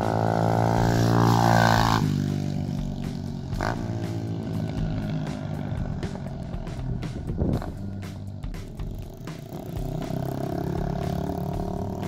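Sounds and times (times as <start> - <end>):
motorbike engine idling: 0.0 - 12.0
motorbike riding past: 0.0 - 12.0.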